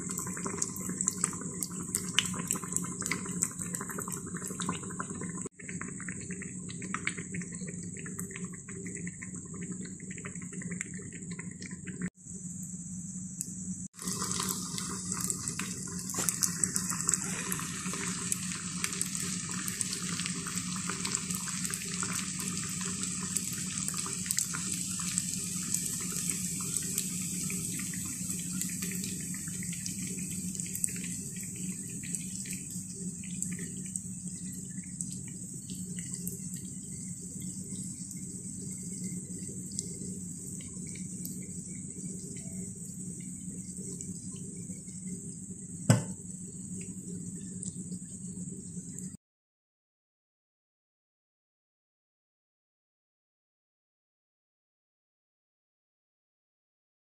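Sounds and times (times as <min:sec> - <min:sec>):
batter sizzling in hot oil: 0:00.0 - 0:49.1.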